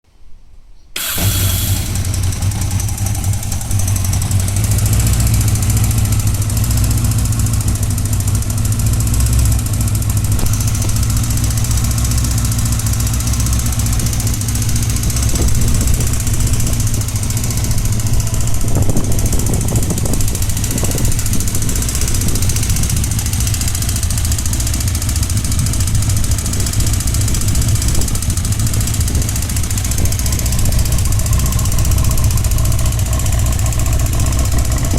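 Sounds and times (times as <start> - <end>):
motorcycle engine idling: 1.0 - 34.9
sharp engine knocks: 1.0 - 34.9.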